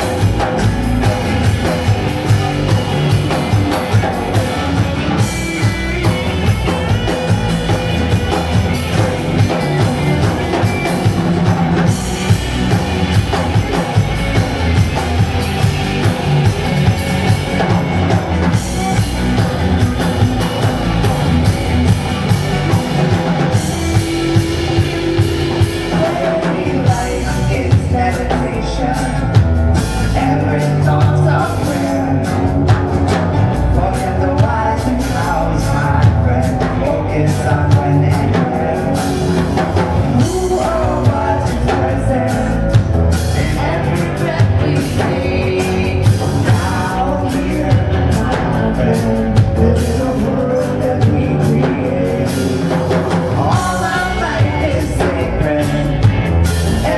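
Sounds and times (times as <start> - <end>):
drum kit: 0.0 - 56.9
electric and acoustic guitars: 0.0 - 56.9
person singing: 0.0 - 56.9.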